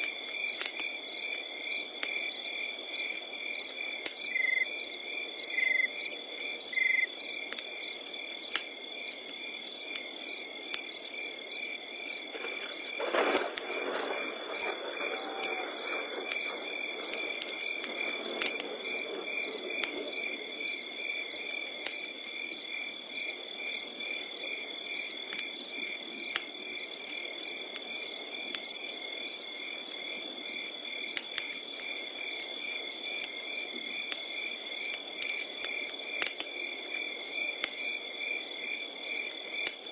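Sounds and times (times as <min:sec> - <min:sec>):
crackling campfire with pops: 0:00.0 - 0:39.9
crickets chirping: 0:00.0 - 0:39.9.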